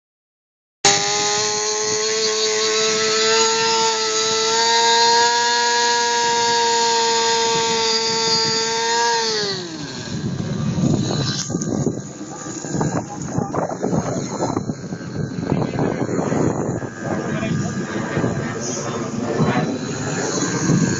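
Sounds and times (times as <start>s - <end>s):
model airplane motor running: 0.8s - 20.9s.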